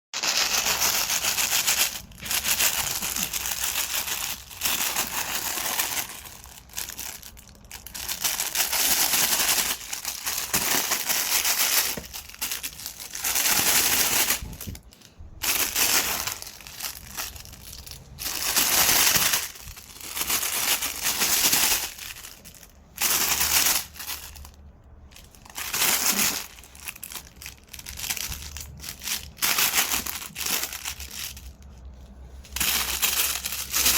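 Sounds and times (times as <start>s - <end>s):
plastic bag crinkling: 0.2s - 33.9s.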